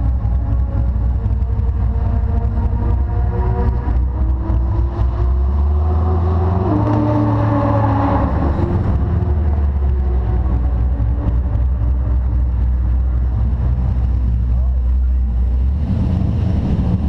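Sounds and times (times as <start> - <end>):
car engine running low speed: 0.0 - 17.0.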